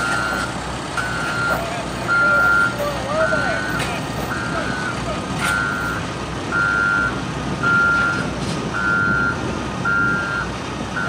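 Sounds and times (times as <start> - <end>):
engine rumble: 0.0 - 11.0
reversing alarm beeping: 0.0 - 11.0.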